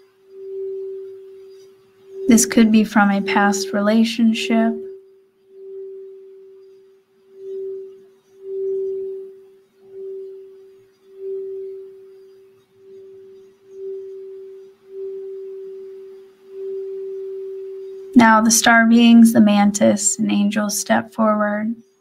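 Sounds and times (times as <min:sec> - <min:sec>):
singing bowl tone: 0:00.0 - 0:22.0.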